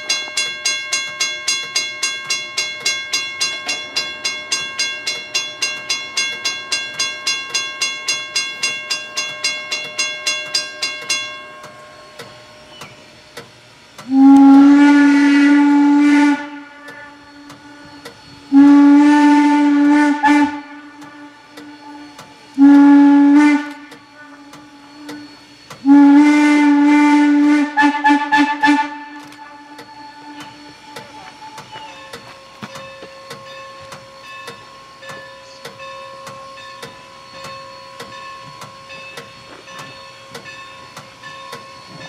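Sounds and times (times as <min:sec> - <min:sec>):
locomotive bell ringing: 0:00.0 - 0:42.0
steam whistle blasts: 0:03.5 - 0:42.0.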